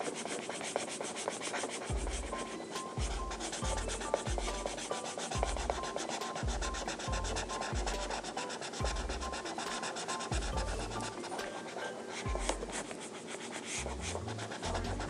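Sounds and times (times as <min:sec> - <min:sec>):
marker rubbing on paper: 0:00.0 - 0:15.0
soft background music: 0:00.1 - 0:15.0.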